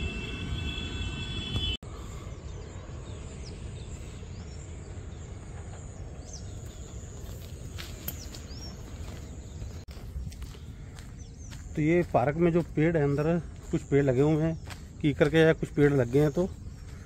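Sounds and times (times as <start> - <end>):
bird chirps: 1.9 - 17.0.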